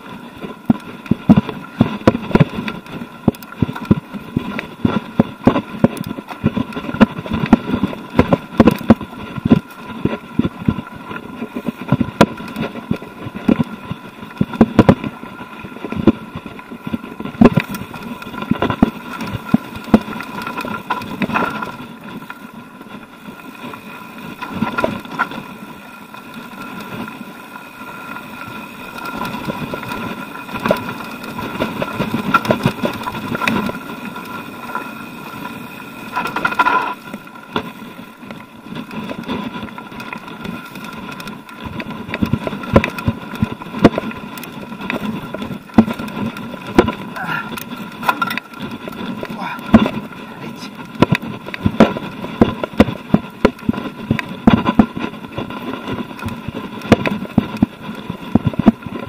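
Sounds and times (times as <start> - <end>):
wheels knocking on stones: 0.0 - 22.4, 23.6 - 59.0
bike rattling over rocks: 0.0 - 59.0.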